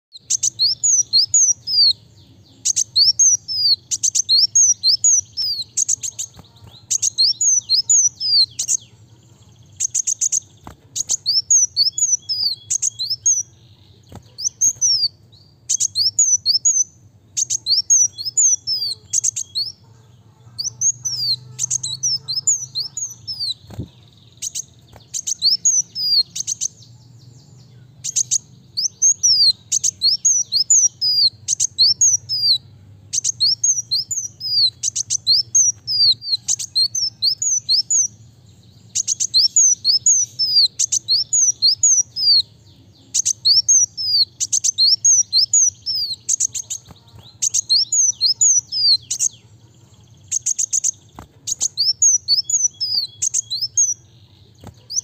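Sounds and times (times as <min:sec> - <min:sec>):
sunbird singing high chirps: 0:00.1 - 0:55.0.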